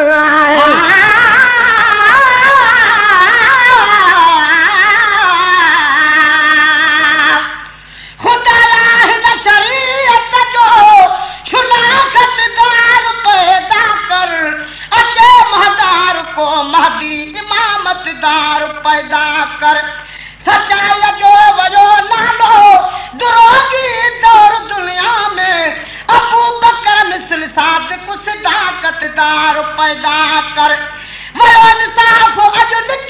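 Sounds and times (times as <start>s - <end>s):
men singing devotional song: 0.0s - 7.6s, 8.2s - 33.0s.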